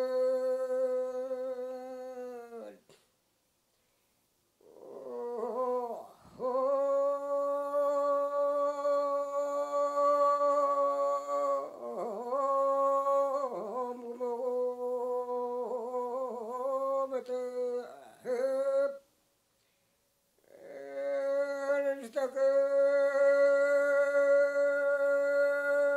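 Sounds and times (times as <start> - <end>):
person chanting solo: 0.0 - 2.9, 4.6 - 19.1, 20.4 - 25.9.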